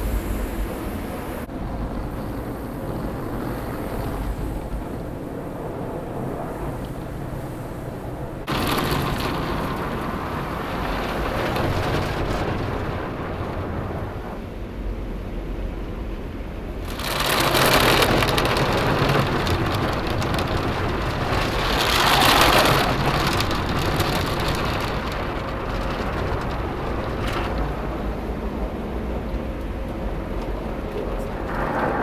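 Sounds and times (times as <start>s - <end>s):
water jets drumming on car: 0.0s - 15.3s, 16.6s - 31.9s
low machinery rumble: 0.0s - 32.0s.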